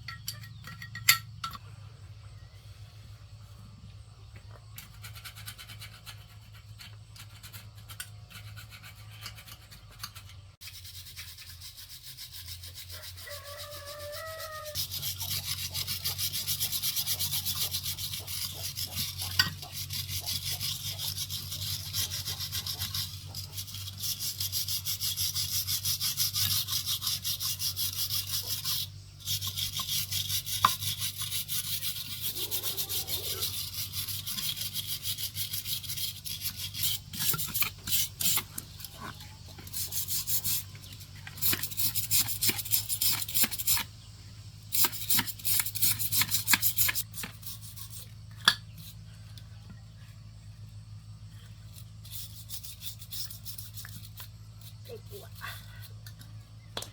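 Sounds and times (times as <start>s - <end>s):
scraping strokes on metal: 4.6s - 49.7s, 50.3s - 56.2s.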